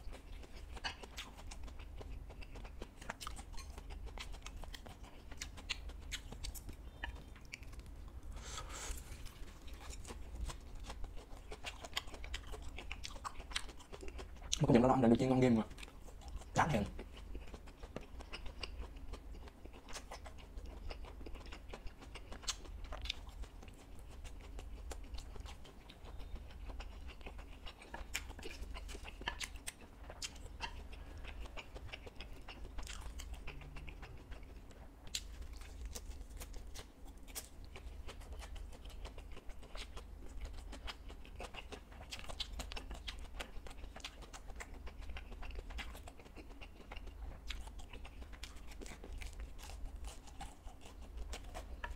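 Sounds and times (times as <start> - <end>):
chewing and crunching fried food: 0.0 - 51.9
steady low hum: 0.0 - 51.9.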